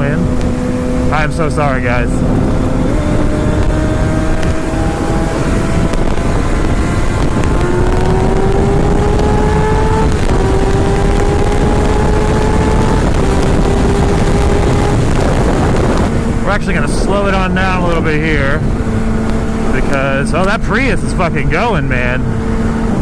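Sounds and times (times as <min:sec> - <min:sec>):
motorcycle engine at speed: 0:00.0 - 0:23.0
wind noise on microphone: 0:00.0 - 0:23.0.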